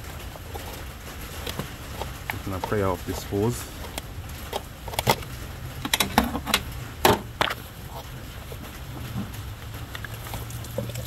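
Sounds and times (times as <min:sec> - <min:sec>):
handling rubber hose: 0:00.0 - 0:11.0
low steady hum: 0:00.0 - 0:11.0.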